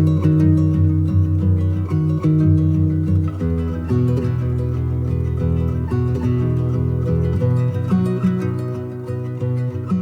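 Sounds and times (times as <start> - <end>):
plucked acoustic guitar: 0.0 - 10.0.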